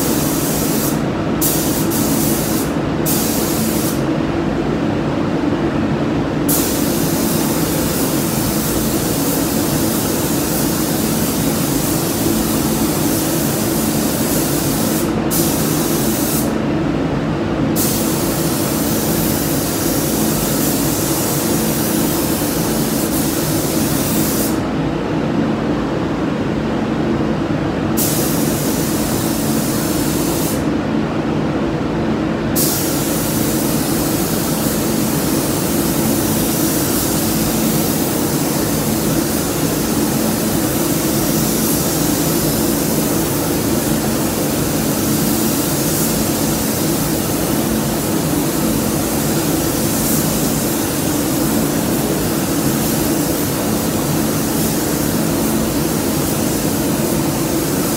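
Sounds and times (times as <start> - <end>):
paint spray gun hissing: 0.0 - 4.0, 6.5 - 16.6, 17.8 - 24.6, 28.0 - 30.7, 32.6 - 57.9.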